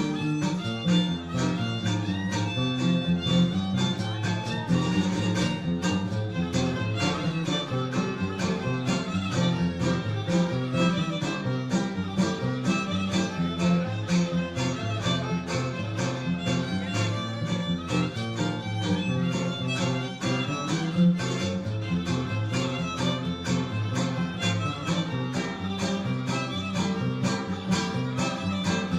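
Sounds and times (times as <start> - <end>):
fiddle melody: 0.0 - 28.9
strummed guitar chords: 0.0 - 28.9.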